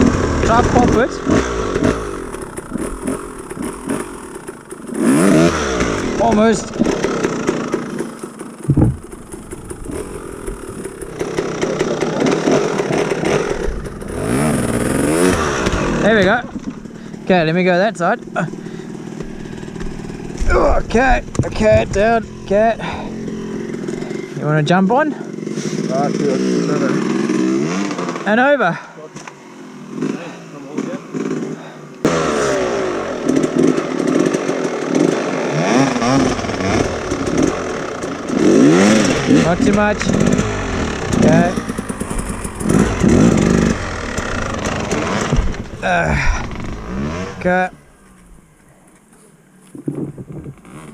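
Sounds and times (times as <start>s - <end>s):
dirt bike engine: 0.0s - 50.9s.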